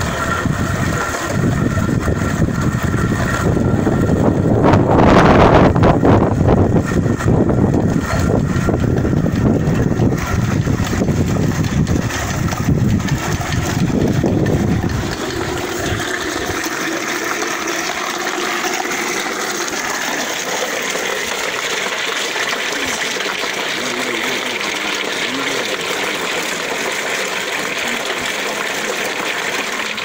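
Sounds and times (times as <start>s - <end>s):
coffee pulper rumbling: 0.0s - 30.0s
water rushing from chute: 0.0s - 30.0s.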